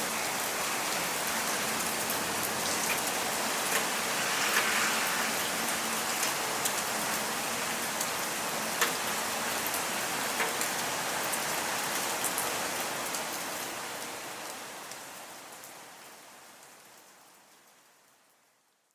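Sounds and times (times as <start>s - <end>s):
heavy rain falling: 0.0s - 18.1s.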